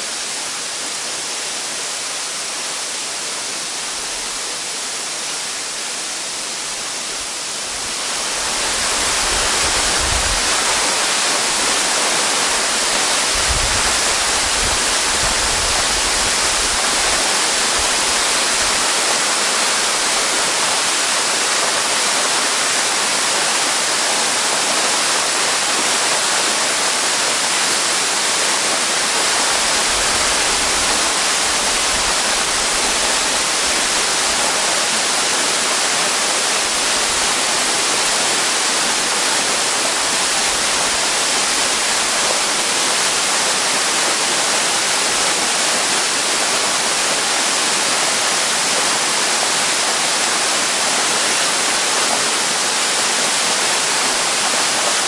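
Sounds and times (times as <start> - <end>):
waterfall rushing onto rock: 0.0 - 55.0.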